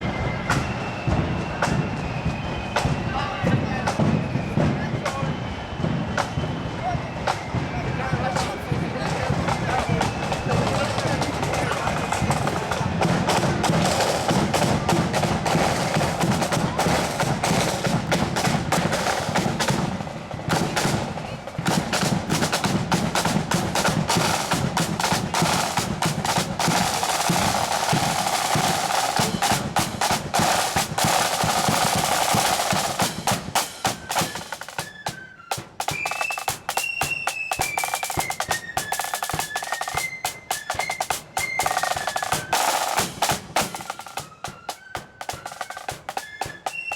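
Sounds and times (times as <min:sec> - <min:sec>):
high flute melody: 0:00.0 - 0:46.9
snare drum rolls: 0:00.0 - 0:46.9.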